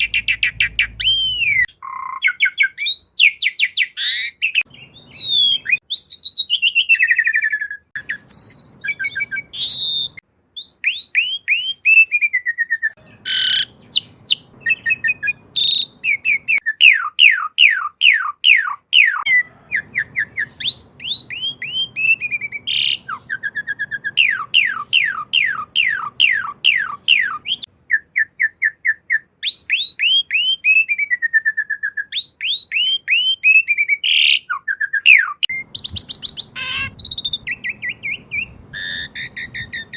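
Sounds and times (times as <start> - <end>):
starling singing whistled notes: 0.0 - 39.9.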